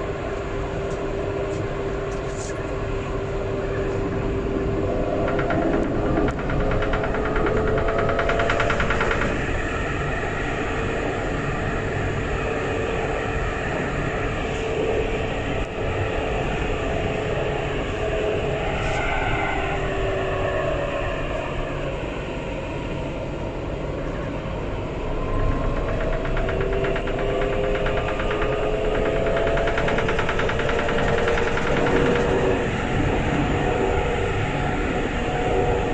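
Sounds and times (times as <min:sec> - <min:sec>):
traction motor whine: 0:00.0 - 0:22.4, 0:23.4 - 0:35.9
tram rolling rumble: 0:00.0 - 0:35.9.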